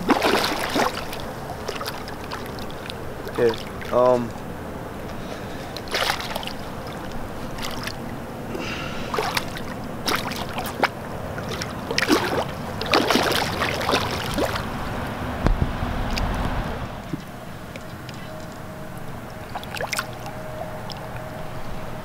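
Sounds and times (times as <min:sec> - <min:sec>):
fish splashing in water: 0:00.0 - 0:22.0
low rumble: 0:00.0 - 0:22.0.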